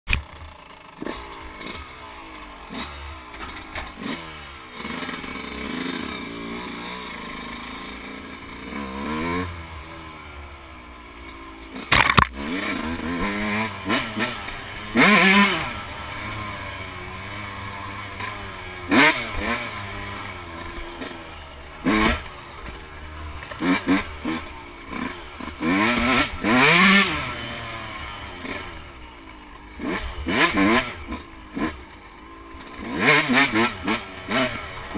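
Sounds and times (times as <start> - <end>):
motocross engine revving: 0.2 - 34.9.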